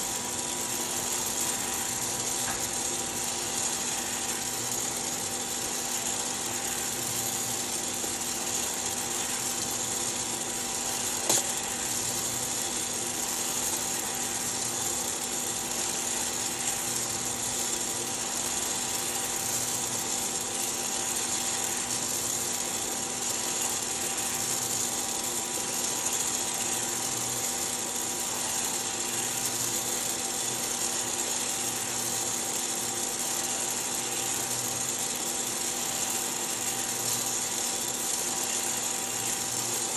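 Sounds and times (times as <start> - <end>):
coffee roaster fan hum: 0.0 - 39.9.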